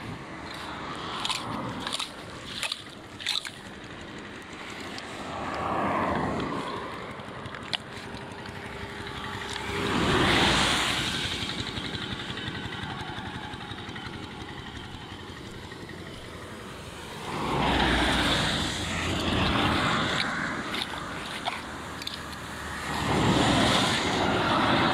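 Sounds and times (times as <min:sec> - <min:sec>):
steady wash of noise: 0:00.0 - 0:24.9
vehicles passing on wet street: 0:00.0 - 0:24.9.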